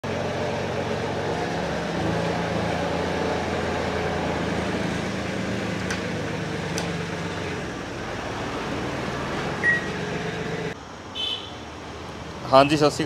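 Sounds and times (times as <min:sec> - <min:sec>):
tractor diesel engine running: 0:00.0 - 0:10.8.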